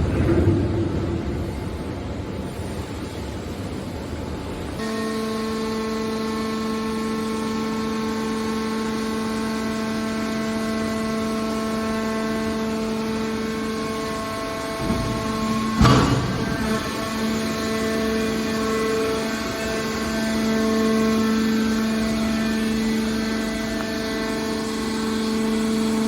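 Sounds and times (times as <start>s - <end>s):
background machinery noise: 0.0s - 26.0s
machine hum: 0.0s - 26.0s.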